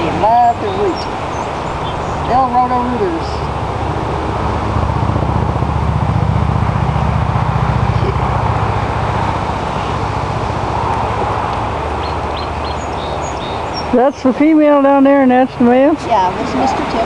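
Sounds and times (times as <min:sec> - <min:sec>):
engine idling: 0:00.0 - 0:14.3.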